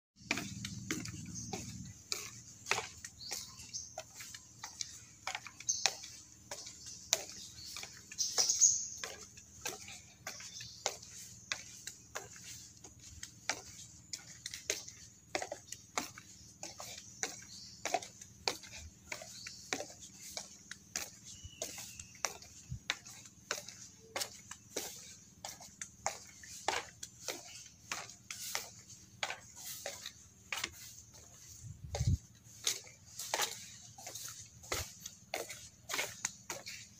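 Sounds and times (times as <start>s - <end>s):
footsteps on wooden planks: 0.2s - 36.9s.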